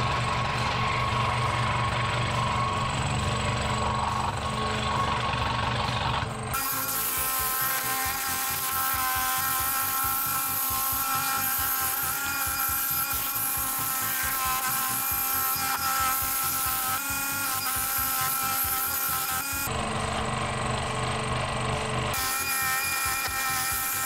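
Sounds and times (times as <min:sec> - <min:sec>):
scroll saw cutting wood: 0:00.0 - 0:19.8, 0:21.7 - 0:24.0.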